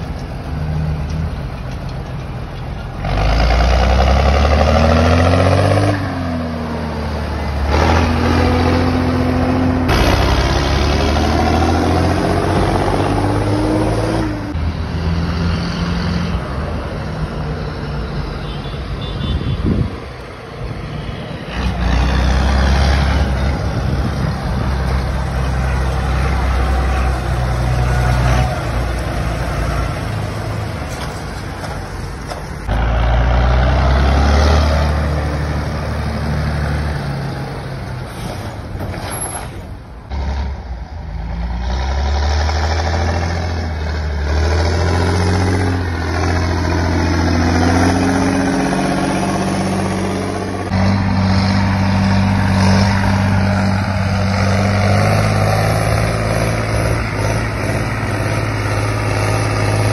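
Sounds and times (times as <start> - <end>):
tractor diesel engines droning: 0.0 - 59.9.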